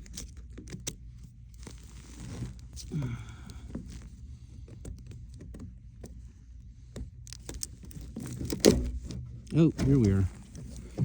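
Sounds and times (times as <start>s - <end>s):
vent duct clicks and scrapes: 0.0s - 11.0s.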